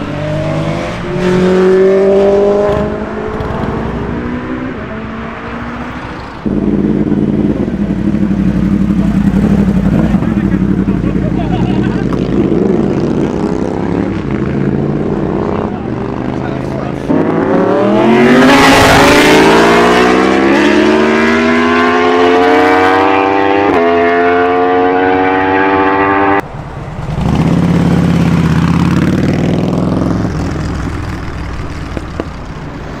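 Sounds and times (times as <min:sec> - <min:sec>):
motorbike engine accelerating: 0:00.0 - 0:26.4, 0:27.0 - 0:32.6.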